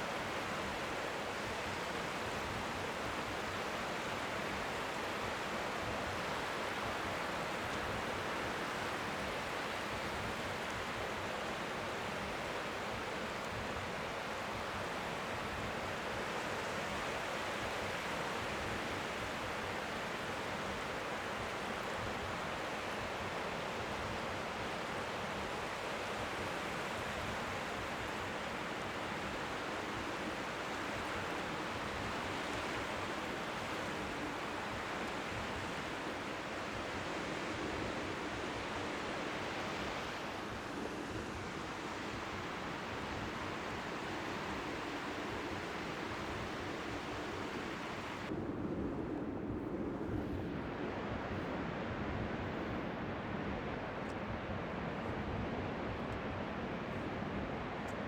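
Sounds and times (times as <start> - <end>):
strong sea wind: 0.1 - 58.0.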